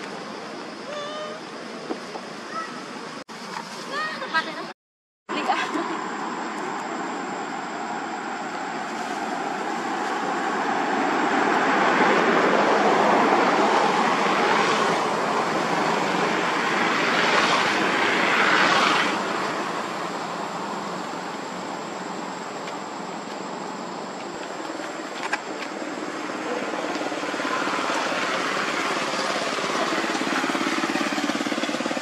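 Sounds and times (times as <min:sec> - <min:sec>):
passing motor vehicle: 0:05.3 - 0:24.1, 0:24.9 - 0:32.0.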